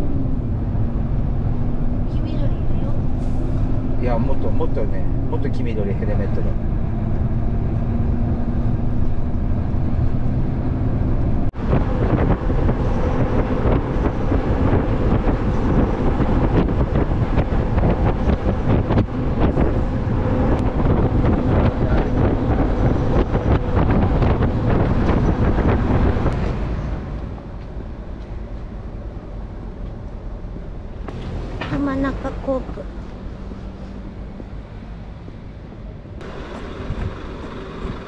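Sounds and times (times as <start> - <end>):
road noise: 0.0 - 38.0
truck engine: 0.0 - 38.0
wind rushing: 0.0 - 38.0.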